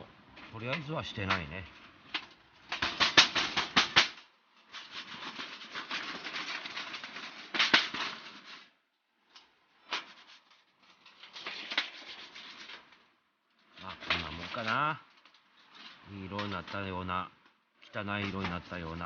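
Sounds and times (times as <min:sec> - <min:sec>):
metal rubbing and rustling: 0:00.0 - 0:19.0
metal plates clicking and clacking: 0:00.3 - 0:19.0.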